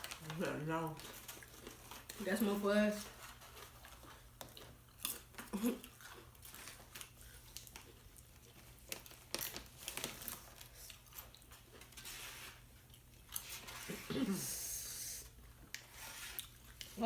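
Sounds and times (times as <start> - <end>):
chips being chewed: 0.0 - 14.1, 15.2 - 17.0.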